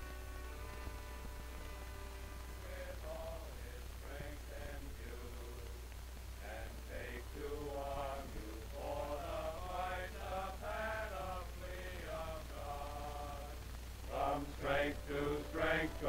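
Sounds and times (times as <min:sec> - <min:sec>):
low soundtrack hum: 0:00.0 - 0:16.0
men singing a hymn: 0:02.4 - 0:05.8, 0:06.4 - 0:16.0.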